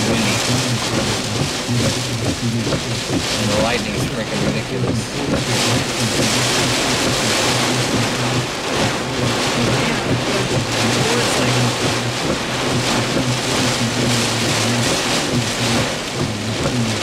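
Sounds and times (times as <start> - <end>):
steady low hum: 0.0 - 17.0
wind and rain lashing a vehicle: 0.0 - 17.0.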